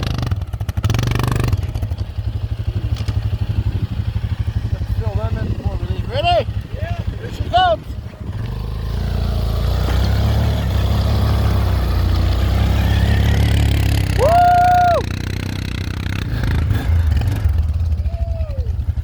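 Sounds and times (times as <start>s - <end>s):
engine running under load: 0.0s - 19.0s.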